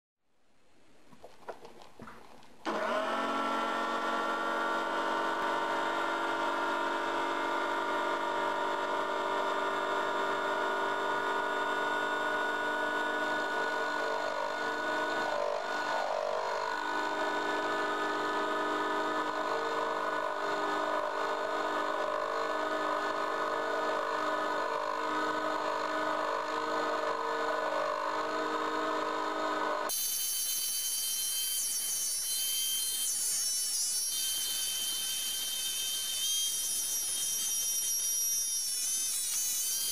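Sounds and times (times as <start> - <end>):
lathe motor whining: 2.7 - 39.9.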